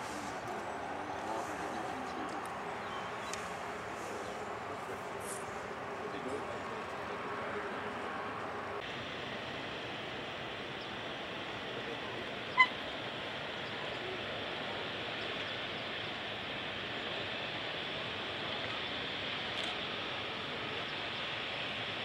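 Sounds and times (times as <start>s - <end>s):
rushing background noise: 0.0s - 22.0s.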